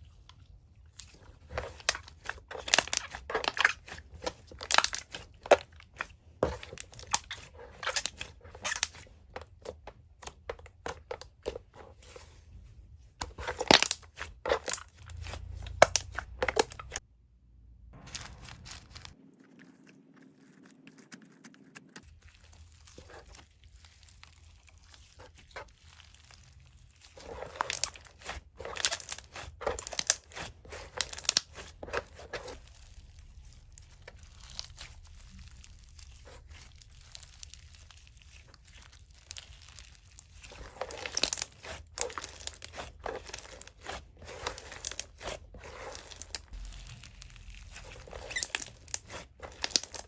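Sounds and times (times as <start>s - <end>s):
slime squished crackling: 0.9s - 12.0s, 13.2s - 17.0s, 18.0s - 50.0s.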